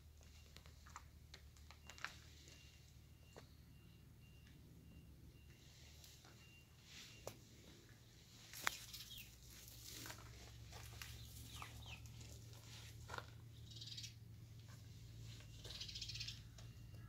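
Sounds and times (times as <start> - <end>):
faint bird chirps: 1.8 - 9.7, 10.7 - 17.0.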